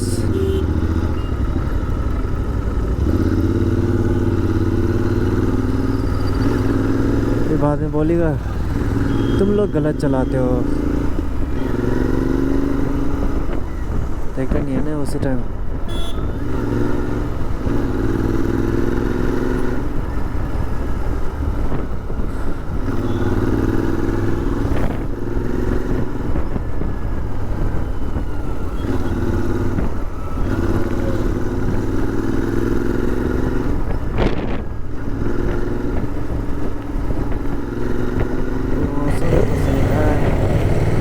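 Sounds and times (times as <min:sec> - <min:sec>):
motorcycle engine while riding: 0:00.0 - 0:41.0.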